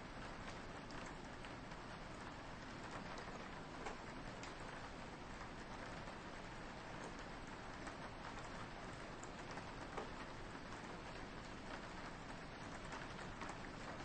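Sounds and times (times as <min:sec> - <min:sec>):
rain on a window: 0:00.0 - 0:14.0.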